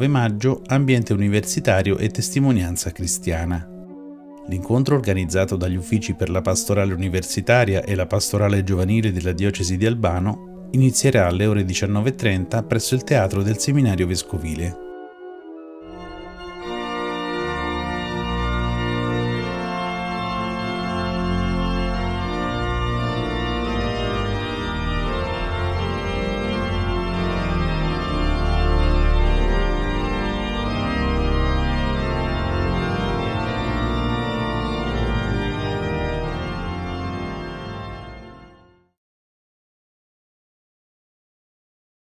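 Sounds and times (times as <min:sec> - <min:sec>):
organ chords: 0:00.0 - 0:39.0.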